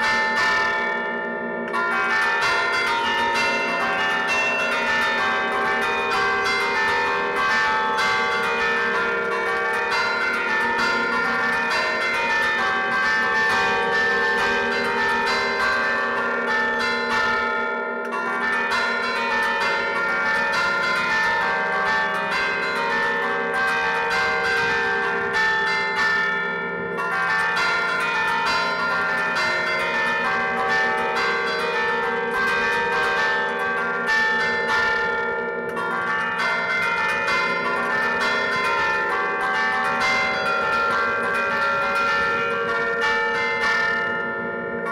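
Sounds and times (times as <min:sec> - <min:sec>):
church bells ringing melody: 0:00.0 - 0:44.9.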